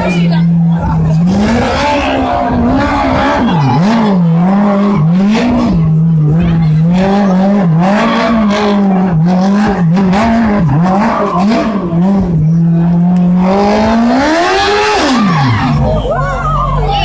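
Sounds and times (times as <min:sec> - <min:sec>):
engine revving hard: 0:00.0 - 0:16.0.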